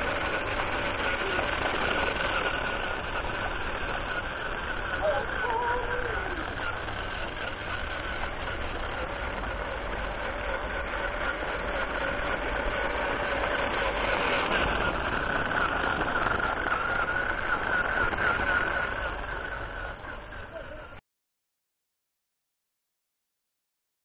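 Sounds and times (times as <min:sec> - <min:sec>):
small electric motor whine: 0:00.0 - 0:21.0.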